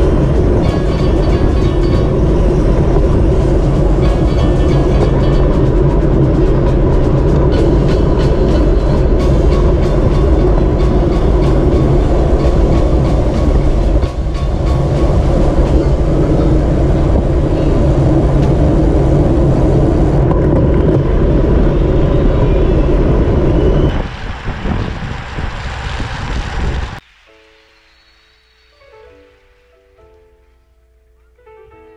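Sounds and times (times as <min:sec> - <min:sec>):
wind rushing over microphone: 0:00.0 - 0:27.3
heavy low rumble: 0:00.0 - 0:31.2.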